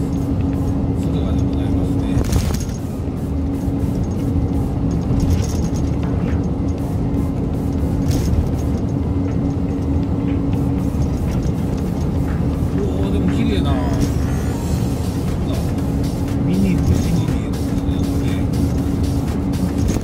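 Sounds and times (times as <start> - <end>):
constant low hum: 0.0 - 20.0
truck road and engine rumble: 0.0 - 20.0.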